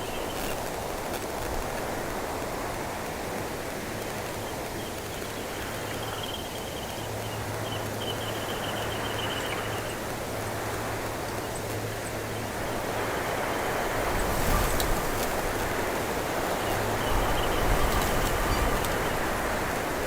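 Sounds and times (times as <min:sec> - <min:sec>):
wind rushing through bush: 0:00.0 - 0:20.0.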